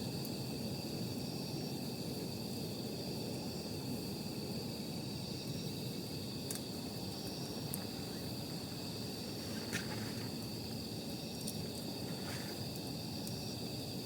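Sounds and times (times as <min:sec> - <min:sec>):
campfire burning: 0:00.0 - 0:14.0
fire crackles and pops: 0:00.0 - 0:14.0
high-pitched insect trill: 0:00.0 - 0:14.0.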